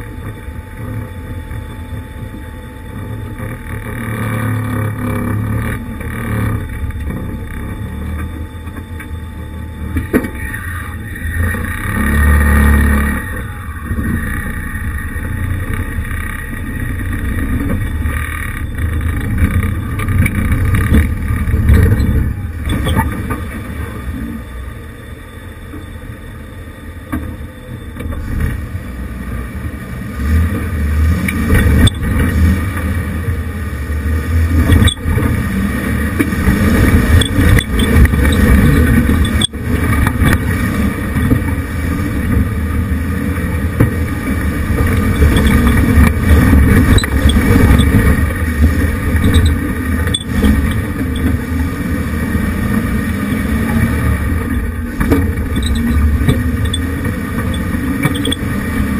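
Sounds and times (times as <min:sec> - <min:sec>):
vehicle engine under load: 0:00.0 - 0:58.9.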